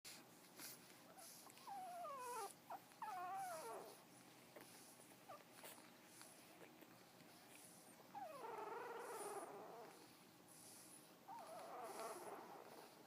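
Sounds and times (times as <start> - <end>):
puppy whining: 0.1 - 13.0.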